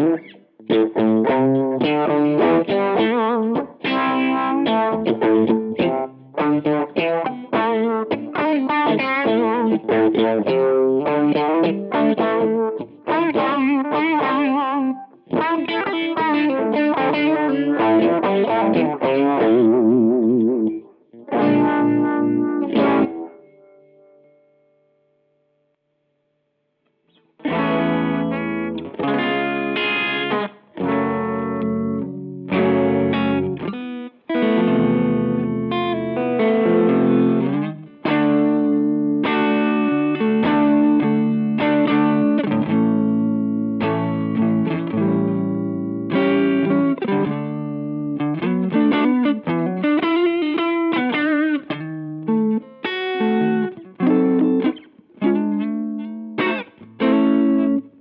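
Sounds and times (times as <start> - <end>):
electric guitar with modulation: 0.0 - 25.7, 26.9 - 58.0.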